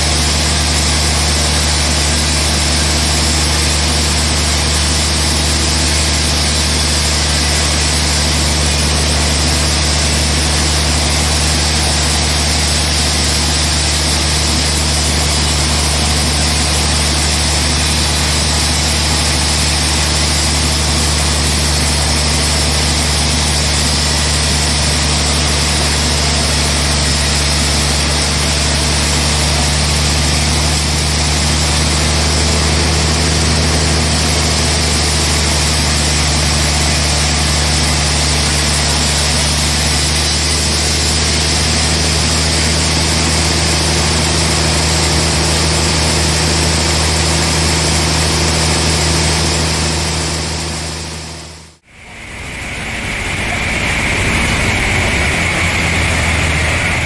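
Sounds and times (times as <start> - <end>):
band sawmill drone: 0.0 - 57.0.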